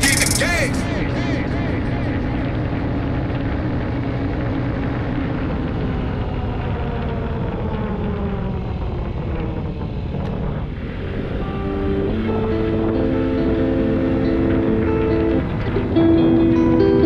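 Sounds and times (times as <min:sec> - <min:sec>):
wind and road noise: 0:00.0 - 0:17.0
scooter engine running: 0:00.1 - 0:17.0.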